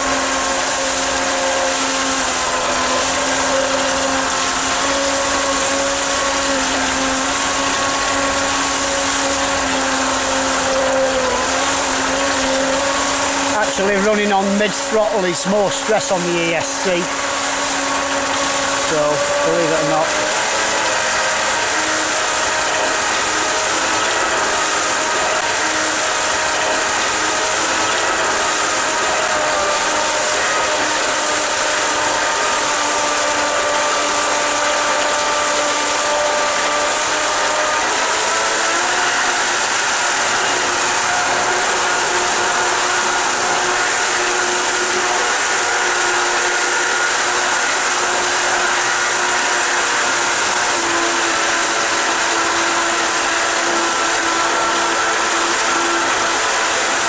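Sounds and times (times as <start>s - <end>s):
electric motors whining: 0.0s - 57.0s
water churning through pump: 0.0s - 57.0s.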